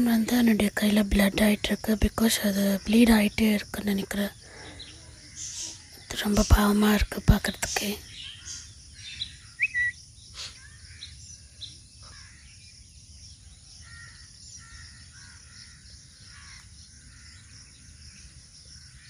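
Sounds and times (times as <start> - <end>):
birds calling: 0.0 - 19.0
low outdoor hiss: 0.0 - 19.0.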